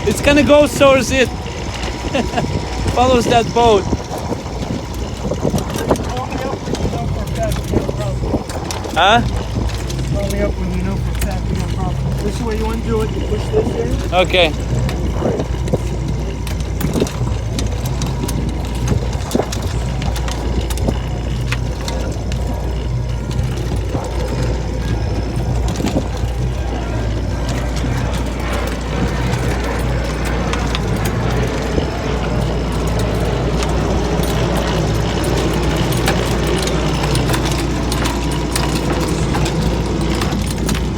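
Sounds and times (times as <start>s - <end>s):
boat engine humming: 0.0s - 40.9s
light clicks and rattles: 0.0s - 40.9s.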